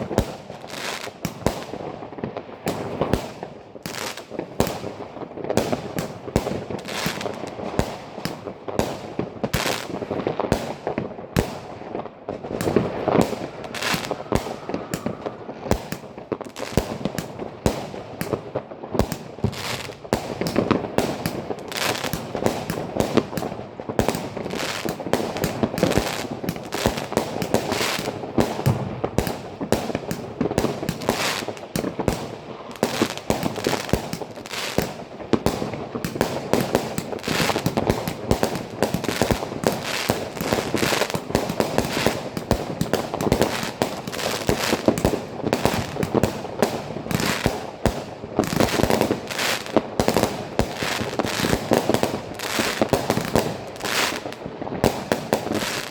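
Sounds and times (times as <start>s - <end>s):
firework crackling: 0.0s - 55.9s
fireworks launching and banging: 0.0s - 55.9s.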